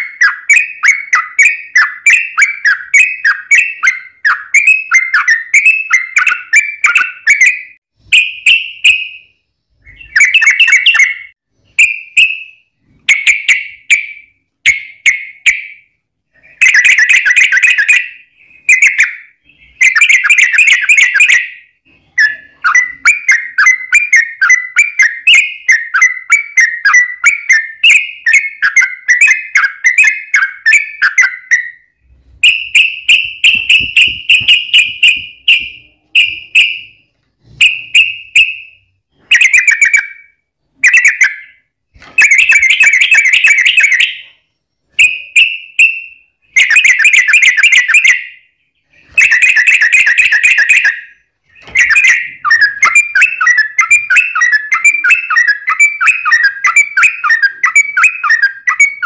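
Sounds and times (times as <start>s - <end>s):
bulbul chattering song: 0.0s - 59.0s.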